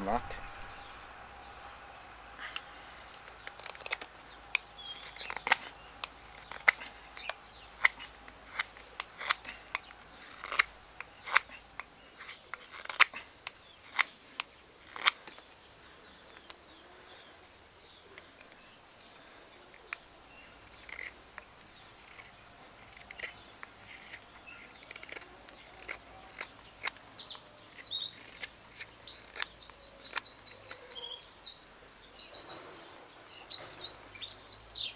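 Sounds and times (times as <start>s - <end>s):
knife carving wood shavings: 0.0s - 15.7s, 17.9s - 30.4s.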